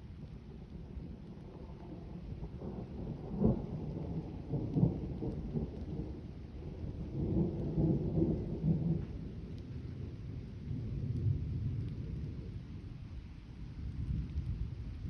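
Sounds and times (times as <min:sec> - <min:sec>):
thunder rumbling: 0:00.1 - 0:13.2.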